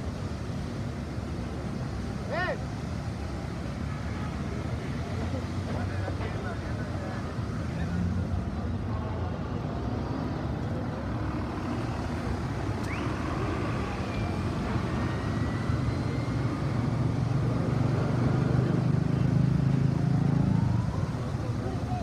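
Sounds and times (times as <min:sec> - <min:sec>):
city traffic passing: 0:00.0 - 0:22.0.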